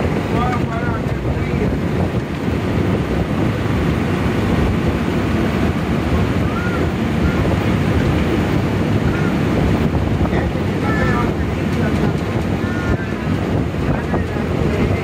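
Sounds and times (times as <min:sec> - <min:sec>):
vehicle road and engine noise: 0:00.0 - 0:15.0
wind buffeting microphone: 0:00.0 - 0:15.0.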